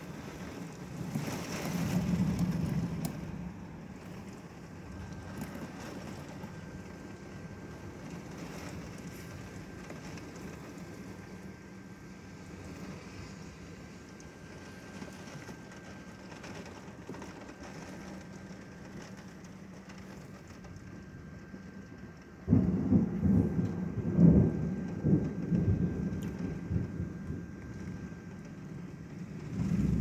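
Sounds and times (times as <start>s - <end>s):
steady rain falling: 0.0s - 30.0s
thunder clap rumbling: 0.0s - 30.0s.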